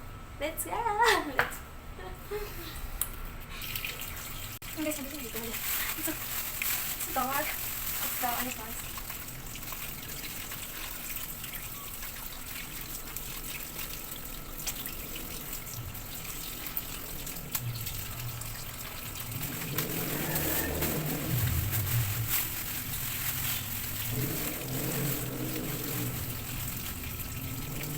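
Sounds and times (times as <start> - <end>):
water running from a tap: 3.5 - 27.9.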